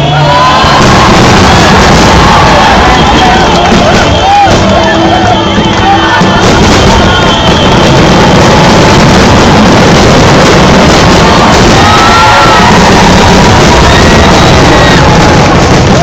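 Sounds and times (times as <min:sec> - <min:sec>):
faint crowd voices: 0:00.0 - 0:16.0
fireworks exploding: 0:00.0 - 0:16.0
music: 0:00.0 - 0:16.0.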